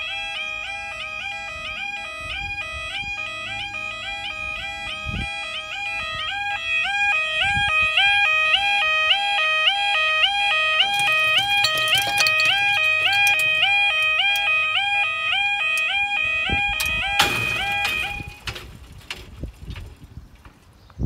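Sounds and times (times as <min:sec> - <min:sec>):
two-tone crossing alarm: 0:00.0 - 0:18.5.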